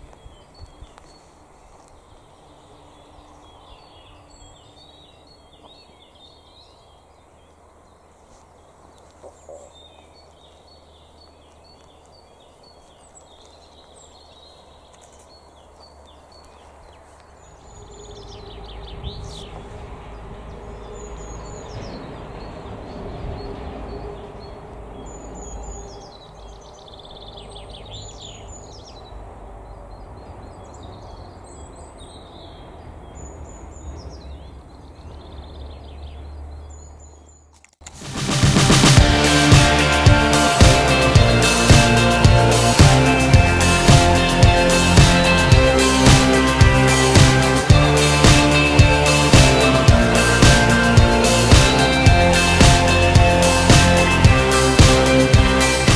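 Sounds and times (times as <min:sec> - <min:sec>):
songbirds chirping: 0:00.0 - 0:37.9, 0:38.9 - 0:55.9.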